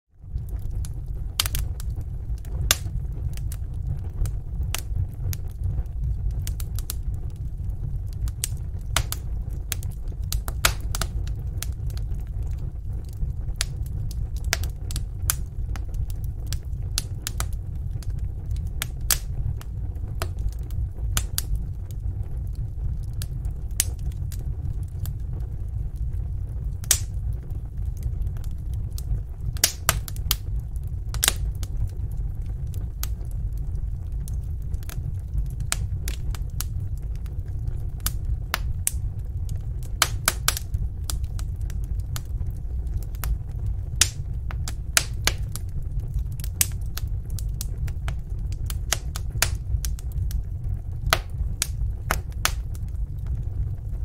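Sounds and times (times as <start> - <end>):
wood fire flames rumbling: 0.1 - 54.0
fire crackling and popping: 0.2 - 54.0.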